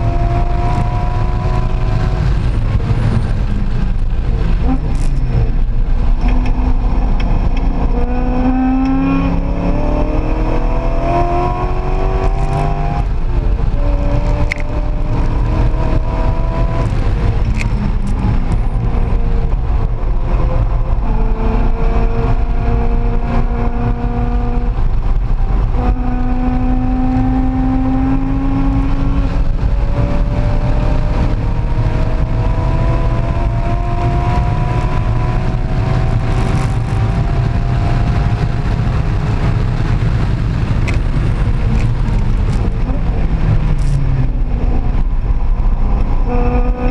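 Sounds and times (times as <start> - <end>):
car engine revving: 0.0 - 46.9
wind and road noise: 0.0 - 46.9.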